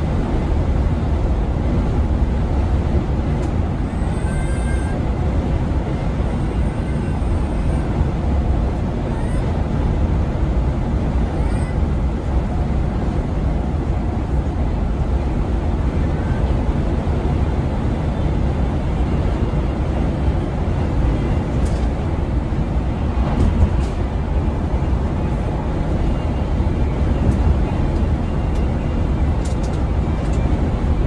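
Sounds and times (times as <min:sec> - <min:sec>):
coach engine and road noise: 0:00.0 - 0:31.0.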